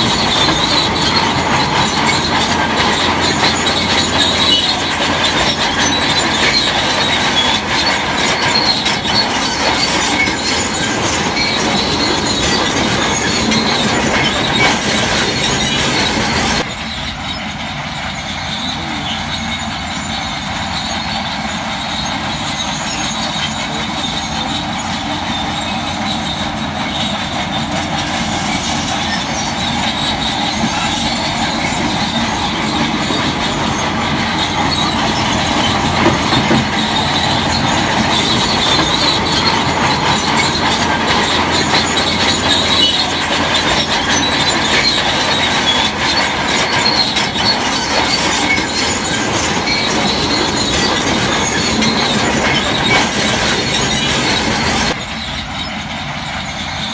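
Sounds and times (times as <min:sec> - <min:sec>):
heavy machinery engine: 0:00.0 - 0:56.9
metallic grinding and squealing: 0:00.0 - 0:56.9.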